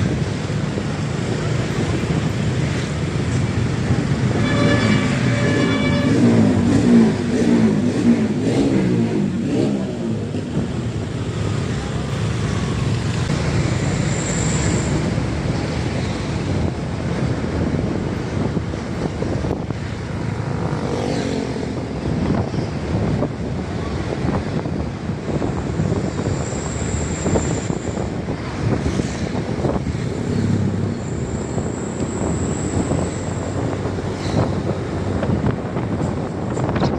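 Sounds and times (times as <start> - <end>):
road noise: 0.0 - 36.9.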